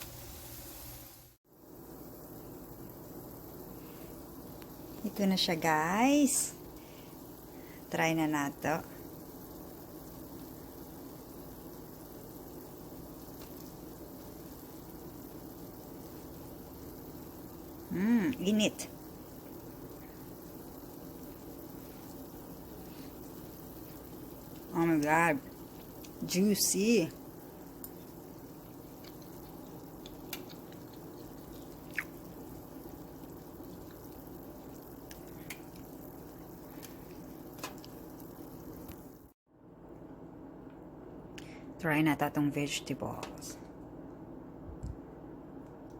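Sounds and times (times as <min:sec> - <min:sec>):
low background hiss and hum: 0:00.0 - 0:45.9.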